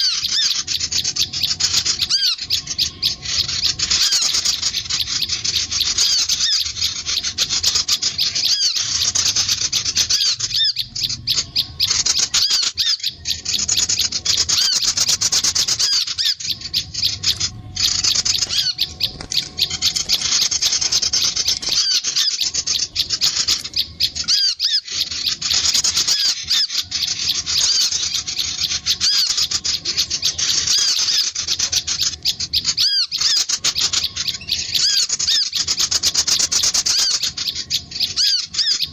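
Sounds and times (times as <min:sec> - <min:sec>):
birds chattering high thin notes: 0:00.0 - 0:38.9.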